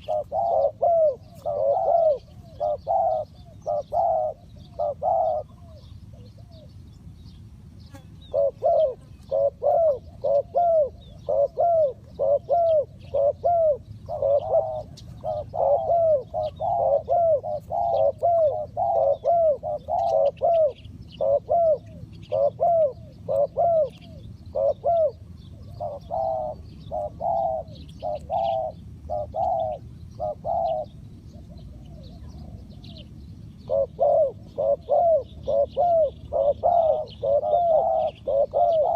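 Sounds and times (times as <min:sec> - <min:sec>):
doves cooing: 0:00.0 - 0:06.8, 0:07.9 - 0:38.9.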